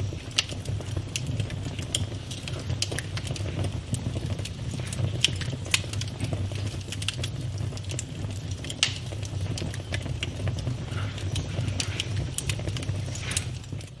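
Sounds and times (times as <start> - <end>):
burning wood crackling and popping: 0.0 - 14.0
rumble of flames: 0.0 - 14.0.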